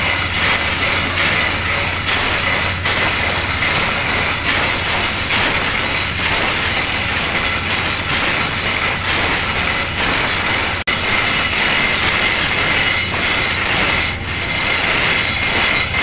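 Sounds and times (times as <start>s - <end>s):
engine room machinery: 0.0s - 16.0s.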